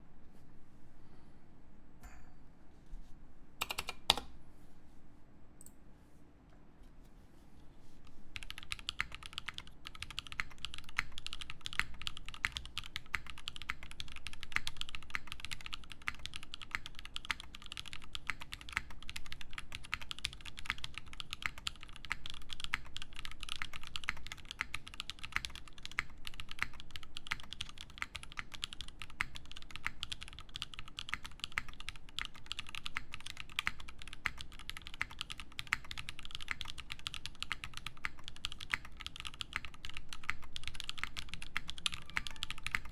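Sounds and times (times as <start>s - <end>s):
fast typing on mechanical keyboard: 3.6s - 4.3s, 8.4s - 42.9s.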